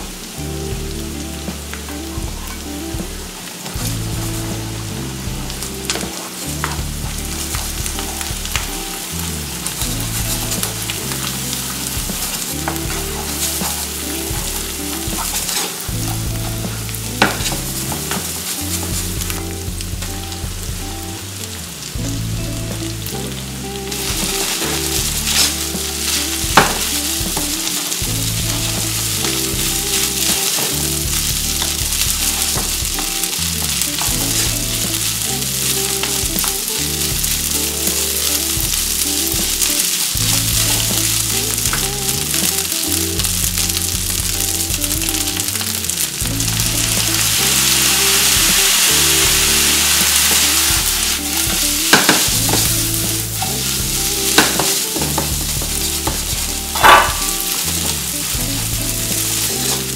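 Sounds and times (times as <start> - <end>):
rice sizzling in a frying pan: 0.1 - 20.5, 21.1 - 59.9.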